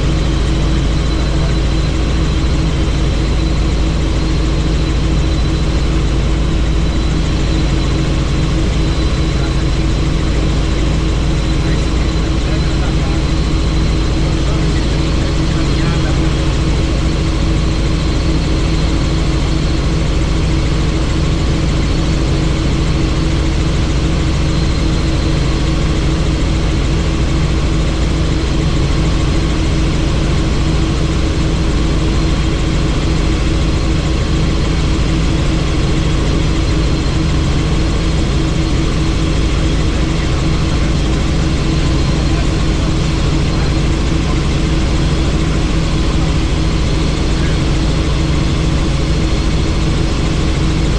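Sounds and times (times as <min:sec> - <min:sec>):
helicopter rotor and engine: 0:00.0 - 0:50.9.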